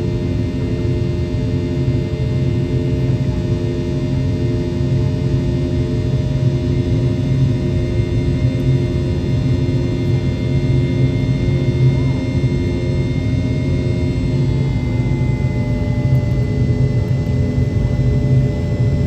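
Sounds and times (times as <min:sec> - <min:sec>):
jet engines droning: 0:00.0 - 0:19.0.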